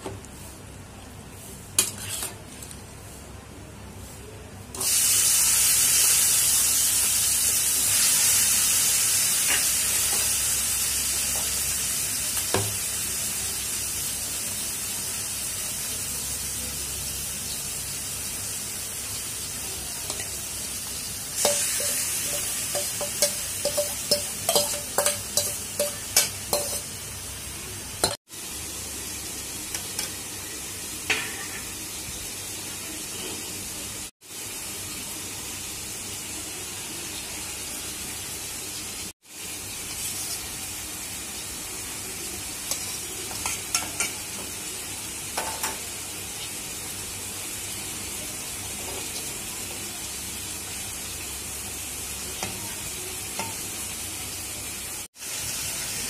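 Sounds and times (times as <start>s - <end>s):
meat sizzling in hot oil: 4.8s - 56.0s.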